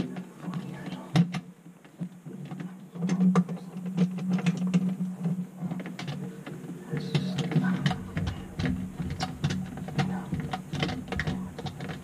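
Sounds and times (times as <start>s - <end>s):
low steady hum: 0.0s - 12.0s
plastic pipe clicks and scraping: 0.0s - 12.0s.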